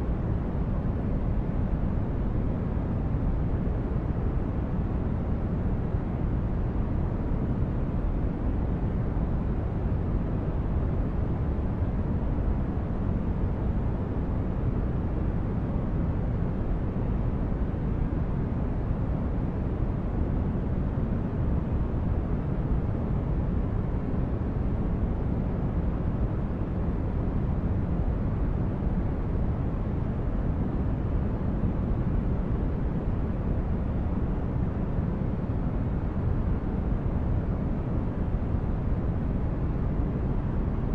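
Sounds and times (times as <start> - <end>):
deep rumbling white noise: 0.0 - 40.9.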